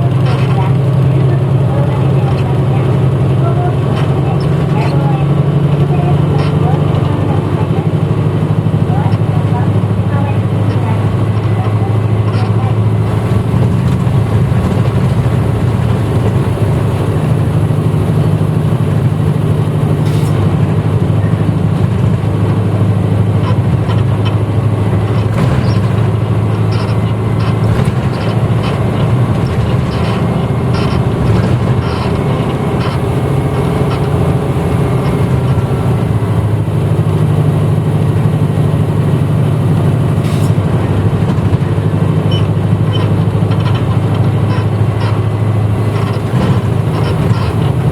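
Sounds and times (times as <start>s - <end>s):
bus engine drone: 0.0s - 47.9s
sharp clicks and rattles: 0.0s - 47.9s.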